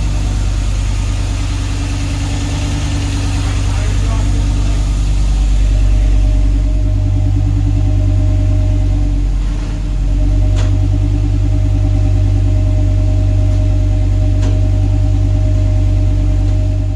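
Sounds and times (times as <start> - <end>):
truck engine idling: 0.0 - 16.9.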